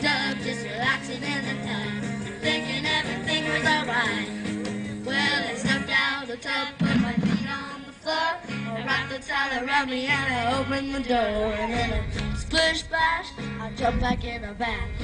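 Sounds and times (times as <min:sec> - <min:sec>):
children singing: 0:00.0 - 0:04.3, 0:05.0 - 0:13.9
instrumental backing music: 0:00.0 - 0:15.0.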